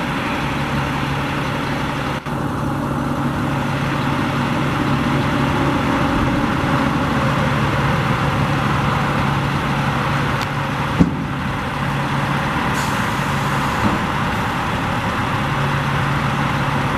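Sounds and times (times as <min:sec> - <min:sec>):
diesel truck engine idling: 0:00.0 - 0:16.9.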